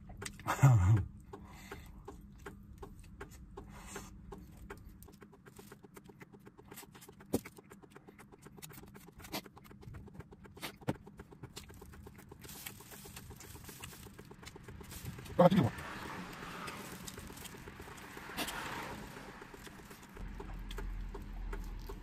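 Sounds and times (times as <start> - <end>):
chewing and lip-smacking: 0.0 - 22.0.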